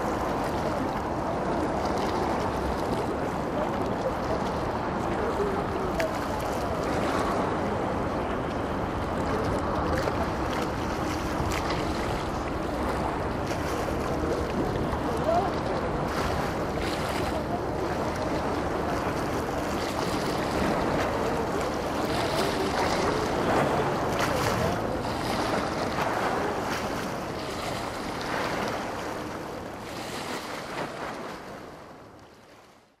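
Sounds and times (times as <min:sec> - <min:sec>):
rushing water: 0:00.0 - 0:33.0.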